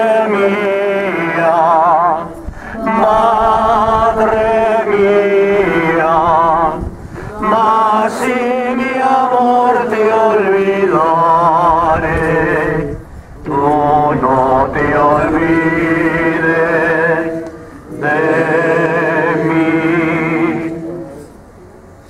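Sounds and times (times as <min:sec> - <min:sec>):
slow devotional singing: 0:00.0 - 0:21.6.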